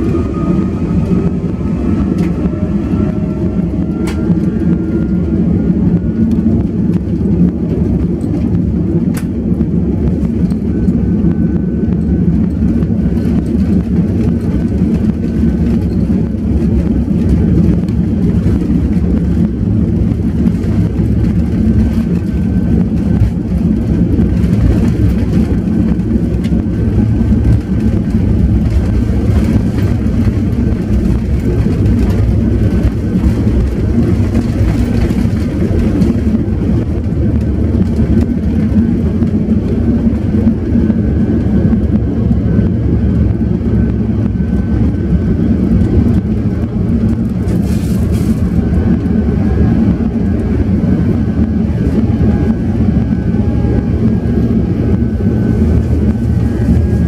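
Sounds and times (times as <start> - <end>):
low jet engine rumble in cabin: 0.0 - 57.0.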